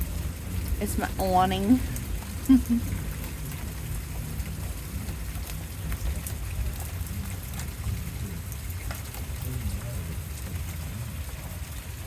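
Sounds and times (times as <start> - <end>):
heavy rain: 0.0 - 12.0
low steady rumble: 0.0 - 12.0
raindrops ticking on a surface: 0.0 - 12.0.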